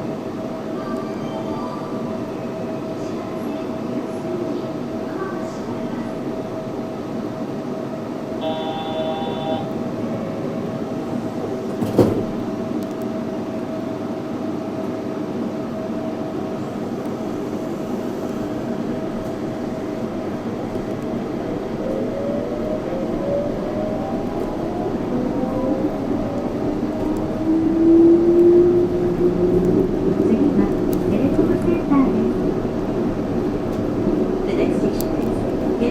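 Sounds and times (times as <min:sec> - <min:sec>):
train running noise: 0:00.0 - 0:35.9.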